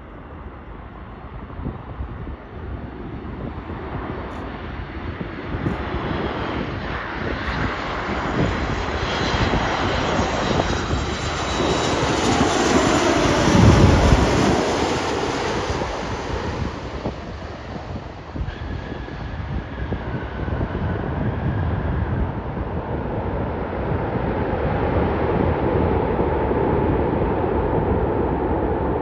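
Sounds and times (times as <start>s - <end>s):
jet airliner passing low: 0.0s - 29.0s.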